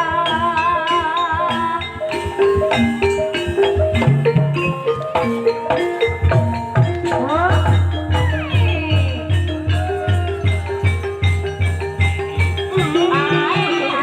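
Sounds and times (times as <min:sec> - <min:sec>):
metallophone notes: 0:00.0 - 0:14.0
wavering held melody line: 0:00.0 - 0:14.0
steady drum beat: 0:01.5 - 0:14.0.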